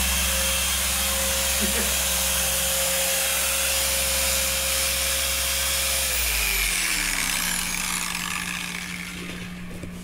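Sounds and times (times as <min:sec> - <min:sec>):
electric polisher motor whine: 0:00.0 - 0:10.0.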